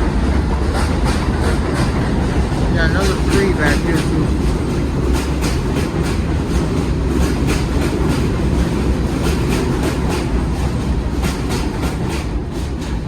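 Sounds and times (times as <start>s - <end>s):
subway train rumbling: 0.0s - 13.0s
wheels clicking over rail joints: 0.4s - 13.0s.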